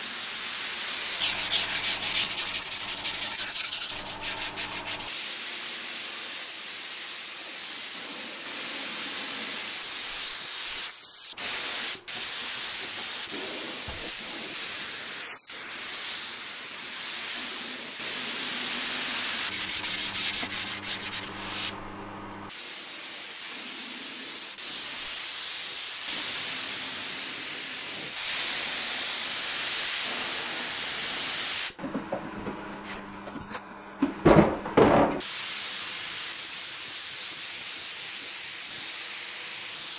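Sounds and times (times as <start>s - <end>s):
spray gun hissing: 0.1s - 21.8s, 22.5s - 31.8s, 35.2s - 39.9s.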